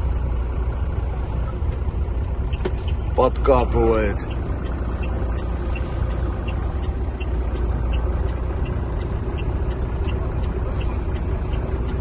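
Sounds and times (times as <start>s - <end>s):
truck diesel engine idling: 0.0s - 12.0s
light regular ticking: 0.7s - 12.0s.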